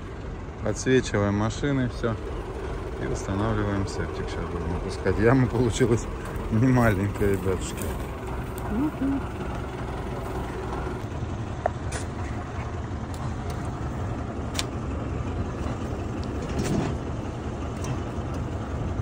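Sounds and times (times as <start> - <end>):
tractor diesel engine rumbling: 0.0 - 19.0.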